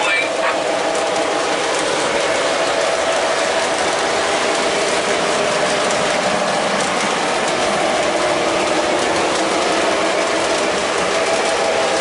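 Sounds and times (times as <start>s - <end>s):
model train wheels rumbling: 0.0s - 12.0s.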